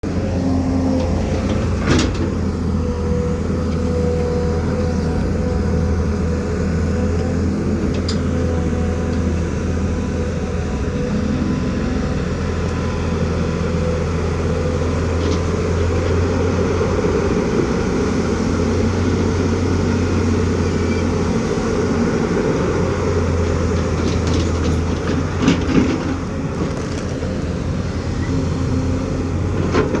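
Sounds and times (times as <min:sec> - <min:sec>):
heavy engine droning: 0:00.0 - 0:30.0.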